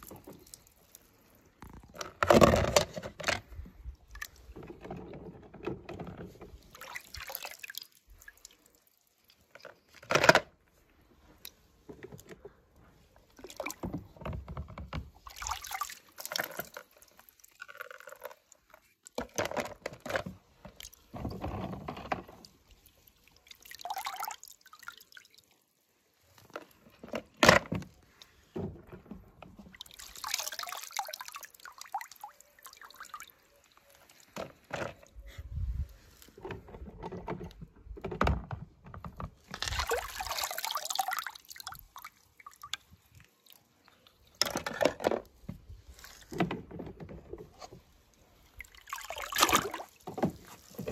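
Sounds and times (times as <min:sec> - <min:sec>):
water splashing in plastic tub: 0:00.0 - 0:10.4, 0:13.0 - 0:35.1, 0:36.1 - 0:50.9.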